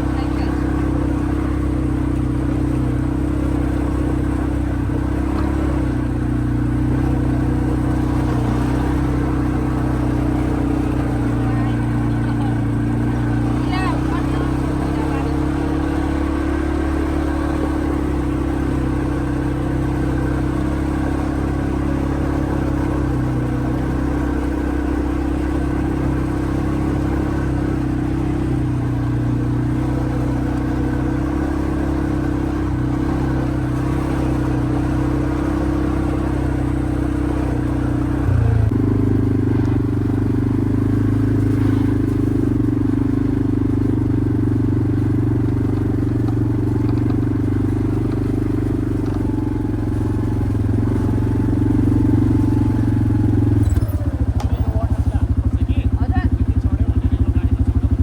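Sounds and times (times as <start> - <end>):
quad bike engine running: 0.0 - 58.0.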